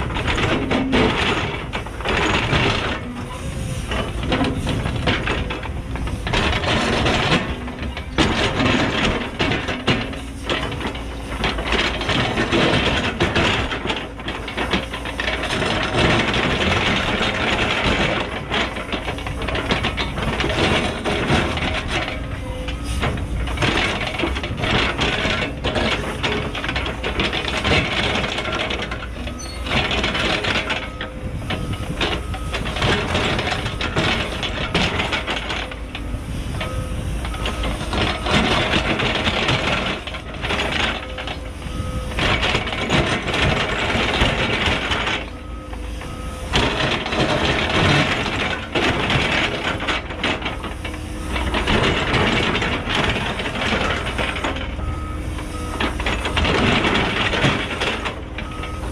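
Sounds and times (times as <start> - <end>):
excavator diesel engine under load: 0.0 - 58.9.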